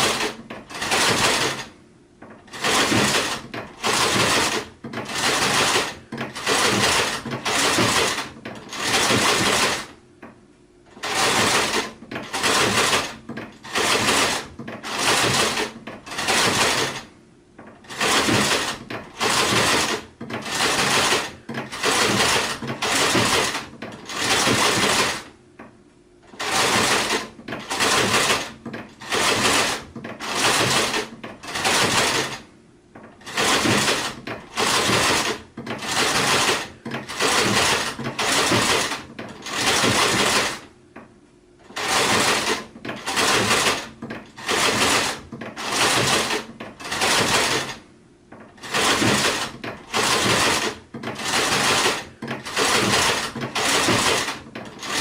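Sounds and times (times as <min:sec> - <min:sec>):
sewing machine stitching: 0:00.0 - 0:10.0, 0:10.9 - 0:25.4, 0:26.2 - 0:40.7, 0:41.6 - 0:55.0.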